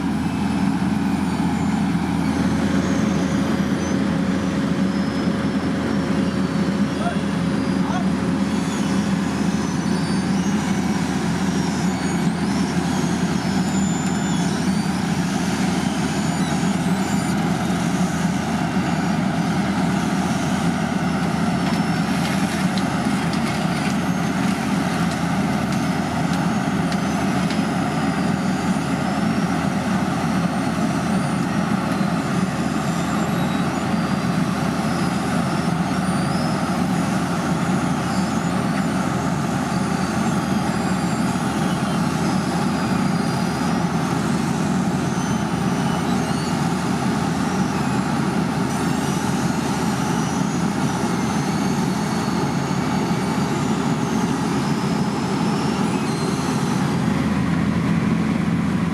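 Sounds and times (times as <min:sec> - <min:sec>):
diesel engines rumbling: 0:00.0 - 0:58.9.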